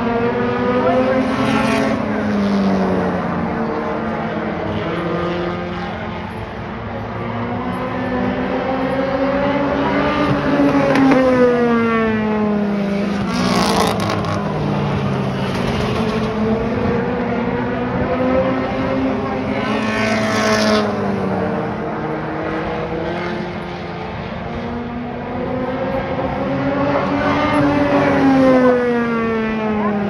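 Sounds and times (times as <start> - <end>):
drone of race cars: 0.0 - 30.0
race car passing: 0.0 - 30.0.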